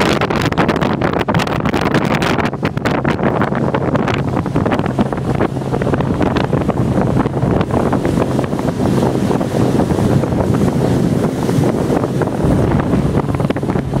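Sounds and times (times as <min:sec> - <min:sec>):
hull rushing through water: 0:00.0 - 0:14.0
speedboat engine drone: 0:00.0 - 0:14.0
wind buffeting microphone: 0:00.0 - 0:14.0.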